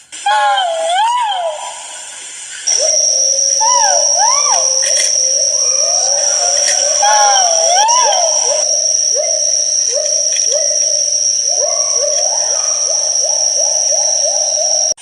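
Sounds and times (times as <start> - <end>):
steady high-pitched whine: 1.5 - 15.0.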